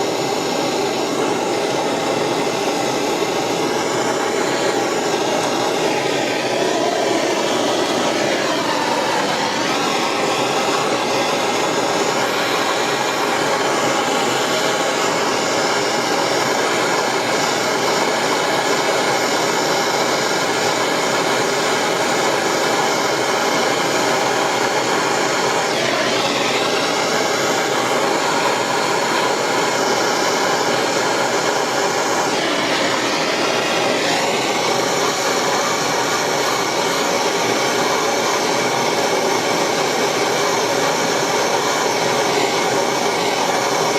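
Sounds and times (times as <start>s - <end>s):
propane torch burning: 0.0s - 43.9s.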